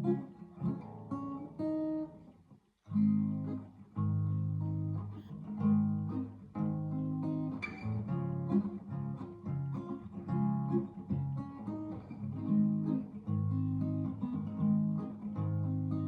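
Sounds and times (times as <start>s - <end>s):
acoustic guitar chords: 0.0s - 2.3s, 2.9s - 16.0s.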